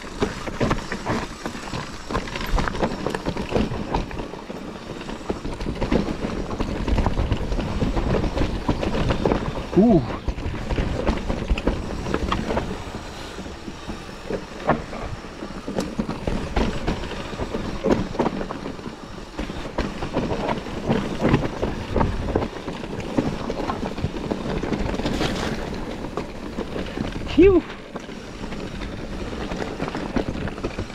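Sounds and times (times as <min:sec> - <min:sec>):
bike knocking and rattling: 0:00.0 - 0:30.9.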